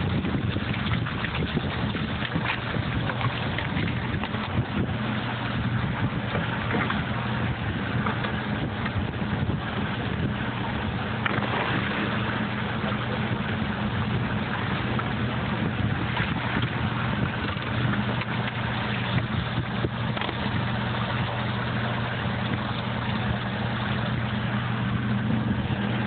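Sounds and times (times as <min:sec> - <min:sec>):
pump motor humming: 0:00.0 - 0:26.0
water rushing: 0:00.0 - 0:26.0.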